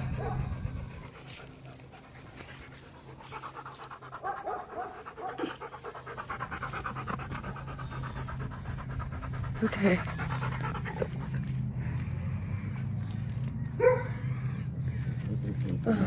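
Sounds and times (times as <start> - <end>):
dog panting: 0.0 - 16.0.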